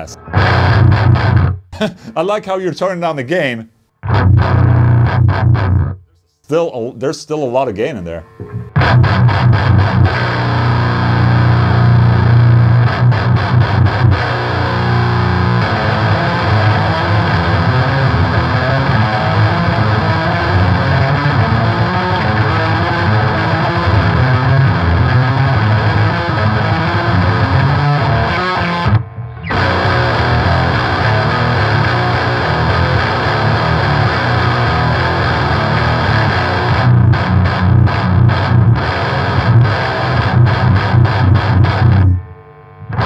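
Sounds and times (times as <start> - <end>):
distorted electric guitar riffs: 0.0 - 2.4, 3.8 - 6.2, 7.1 - 43.0.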